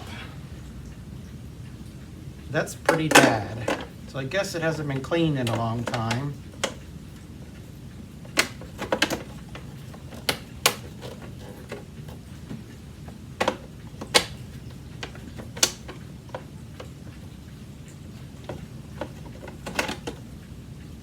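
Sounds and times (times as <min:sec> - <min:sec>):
plastic parts clicking and knocking: 0:02.6 - 0:20.5.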